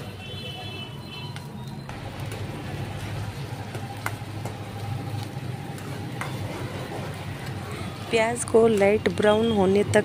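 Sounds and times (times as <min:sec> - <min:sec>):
onions sizzling in hot oil: 0:01.9 - 0:10.0.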